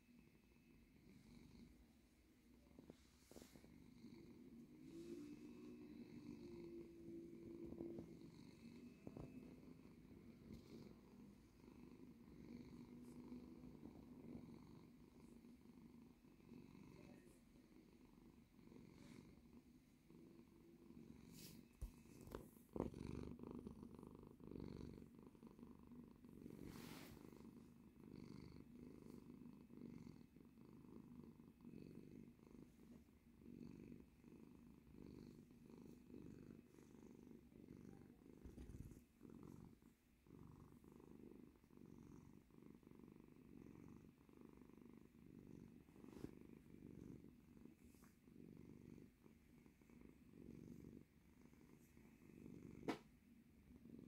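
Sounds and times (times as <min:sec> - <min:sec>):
cat purring softly: 0:00.0 - 0:54.0.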